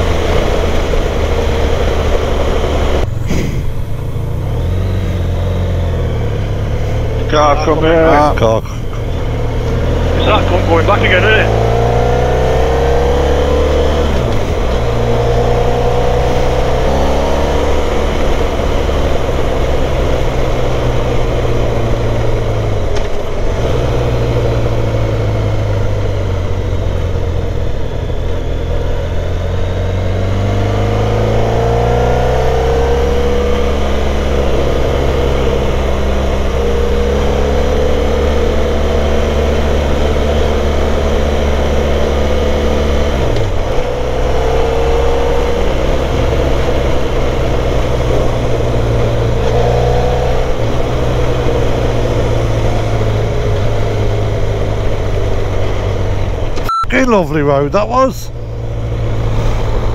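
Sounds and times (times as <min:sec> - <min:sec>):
motorcycle engine revving: 0:00.0 - 0:56.6
wind and road noise: 0:00.0 - 0:59.9.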